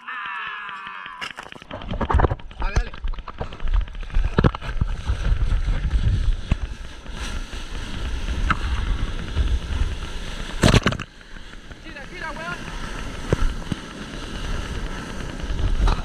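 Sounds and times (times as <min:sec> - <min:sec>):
wind on microphone: 0:01.7 - 0:16.0
surf whitewater rushing: 0:02.6 - 0:16.0.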